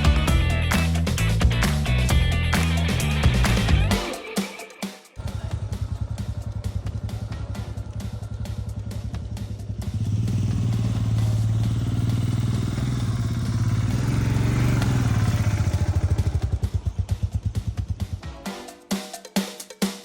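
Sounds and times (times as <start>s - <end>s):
vehicle engine running: 0.0s - 3.9s, 5.2s - 18.2s.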